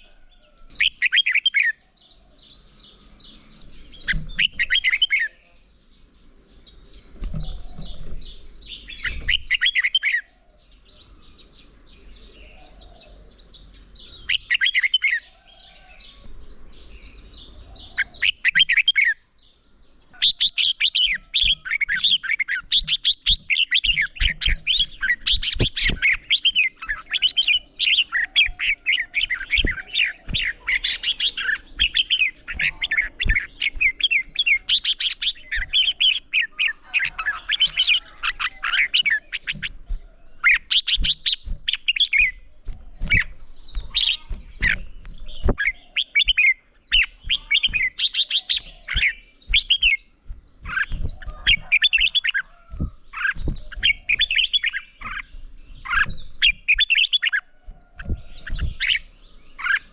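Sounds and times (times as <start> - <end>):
bulbuls chirping and warbling: 0.0 - 59.9.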